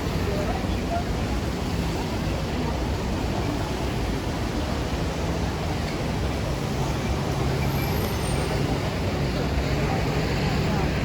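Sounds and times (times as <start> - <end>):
rain hissing on street: 0.0 - 11.0
traffic rumble: 0.0 - 11.0.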